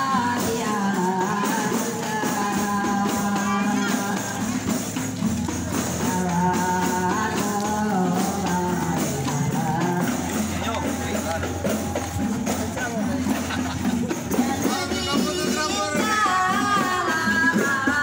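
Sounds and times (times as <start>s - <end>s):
frame drum beat: 0.0s - 18.0s.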